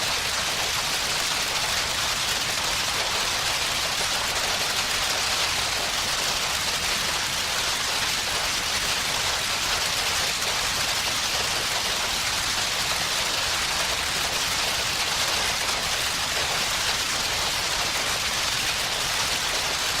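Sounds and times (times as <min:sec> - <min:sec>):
electric field crackling hiss: 0:00.0 - 0:20.0.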